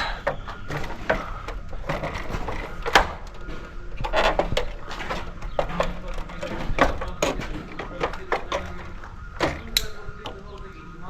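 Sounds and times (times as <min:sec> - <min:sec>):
knocks and clatters: 0:00.0 - 0:11.0.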